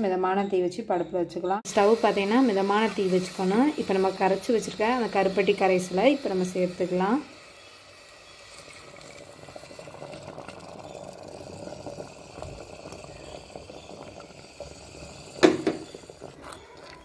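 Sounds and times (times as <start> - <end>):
syrup pouring and bubbling: 1.7 - 17.0.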